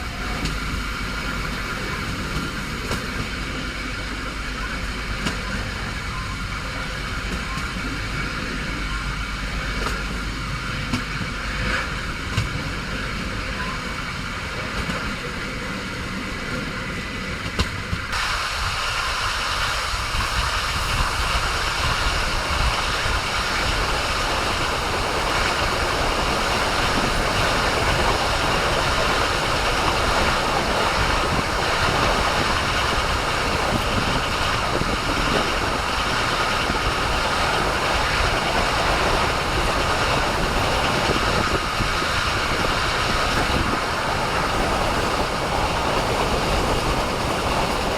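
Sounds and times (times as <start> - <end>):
train rumbling on rails: 0.0 - 47.9.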